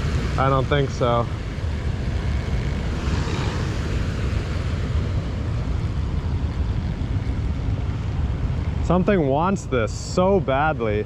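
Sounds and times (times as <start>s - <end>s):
water rushing through spillway: 0.0s - 2.2s, 2.8s - 11.0s.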